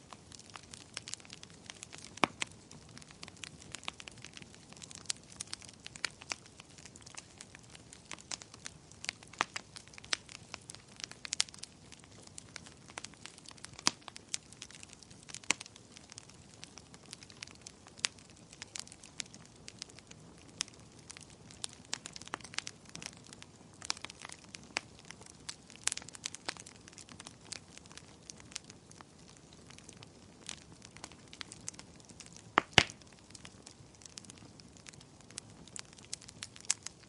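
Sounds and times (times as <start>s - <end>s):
faint steady hiss: 0.0s - 37.0s
wood fire crackling: 0.0s - 37.0s.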